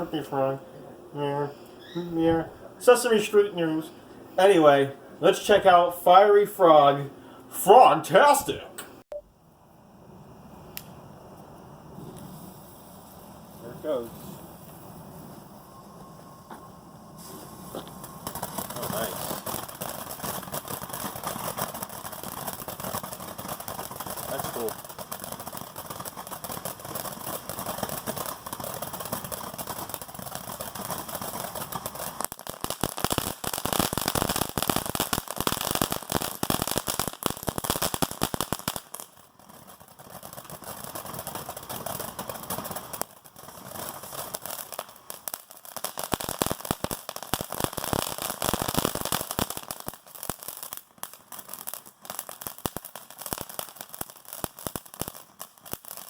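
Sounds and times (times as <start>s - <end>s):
firework crackling: 0.0s - 56.0s.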